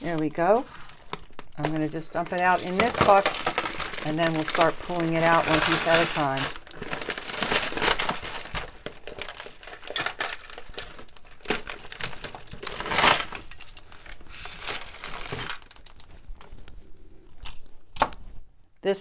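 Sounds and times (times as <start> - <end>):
plastic bag crinkling: 0.0 - 18.5.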